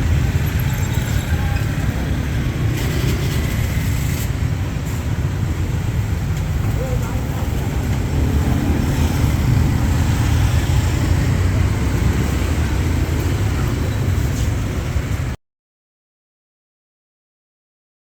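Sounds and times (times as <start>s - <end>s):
rumble of road traffic: 0.0s - 15.4s.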